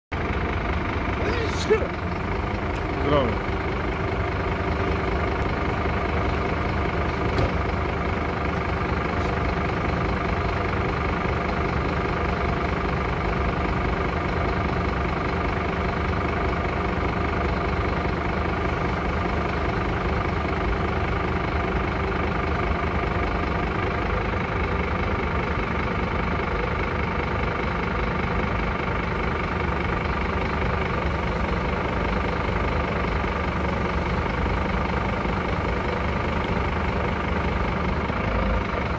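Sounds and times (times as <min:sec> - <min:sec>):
diesel truck engine idling: 0:00.1 - 0:38.9.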